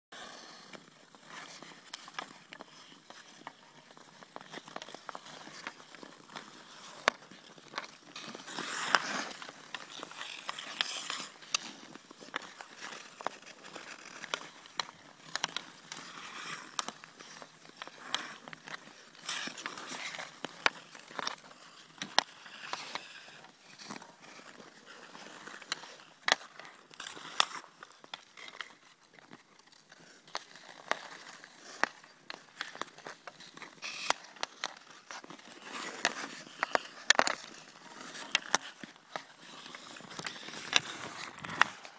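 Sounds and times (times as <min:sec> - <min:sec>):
hockey sticks striking puck: 0:00.2 - 0:41.9
skates scraping on ice: 0:00.2 - 0:41.9.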